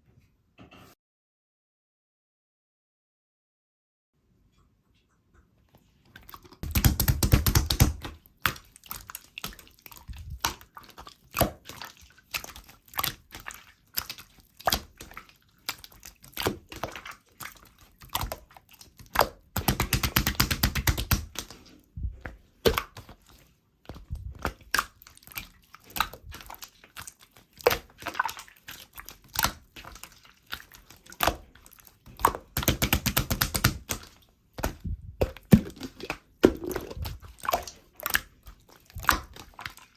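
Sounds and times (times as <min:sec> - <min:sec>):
slime squished by hand: 0:06.2 - 0:39.9.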